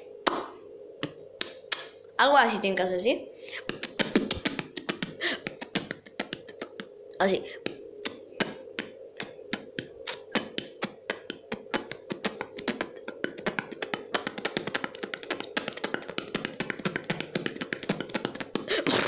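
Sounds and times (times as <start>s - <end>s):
beatboxing mouth clicks and pops: 0.2s - 2.0s, 3.5s - 6.9s, 7.6s - 19.0s.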